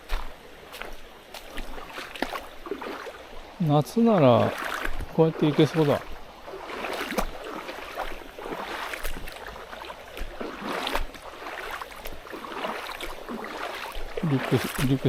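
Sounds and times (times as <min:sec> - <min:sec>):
footsteps splashing through water: 0:00.0 - 0:15.0
stream running water: 0:00.0 - 0:15.0.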